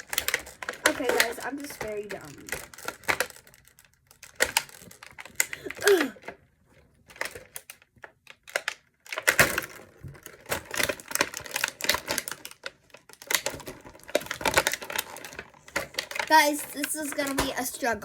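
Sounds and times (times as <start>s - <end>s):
plastic packaging crackling: 0.0s - 18.0s.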